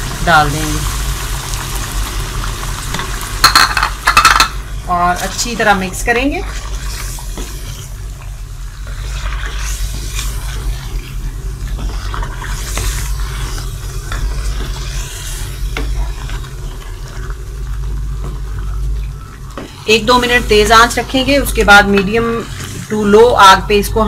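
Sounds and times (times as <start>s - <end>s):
sauce sizzling: 0.0s - 23.7s
steady low hum: 0.0s - 24.0s.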